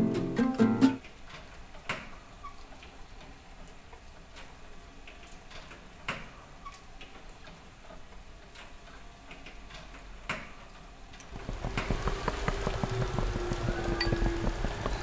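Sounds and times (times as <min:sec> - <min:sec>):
mechanism clicking and ticking: 0:01.0 - 0:15.0.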